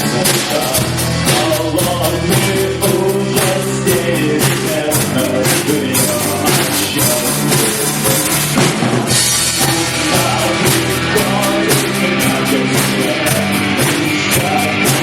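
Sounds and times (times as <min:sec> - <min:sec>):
bass guitar: 0:00.0 - 0:15.0
drum kit steady beat: 0:00.0 - 0:15.0
electric guitars: 0:00.0 - 0:15.0.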